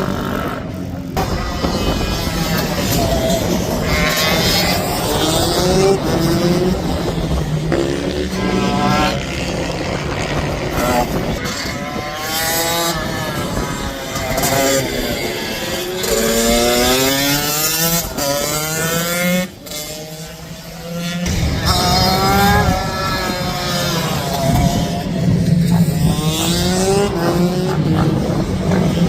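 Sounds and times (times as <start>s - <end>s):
minibike engines revving: 0.0s - 29.0s.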